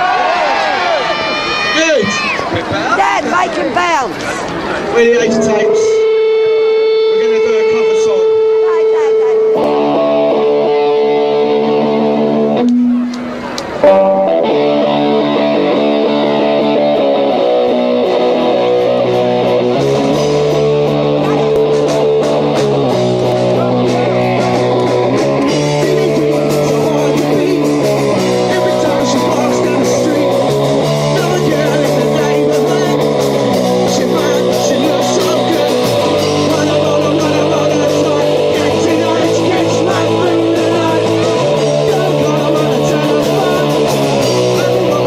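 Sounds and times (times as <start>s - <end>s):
electric guitar chords: 5.0s - 45.0s.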